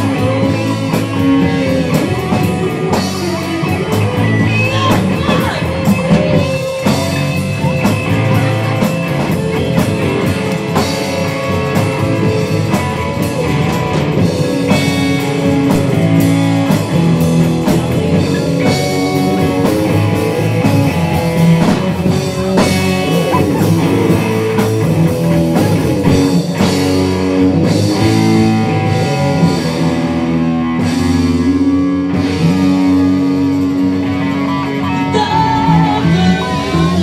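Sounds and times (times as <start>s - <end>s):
bass guitar: 0.0s - 37.0s
drum kit: 0.0s - 37.0s
electric guitar: 0.0s - 37.0s.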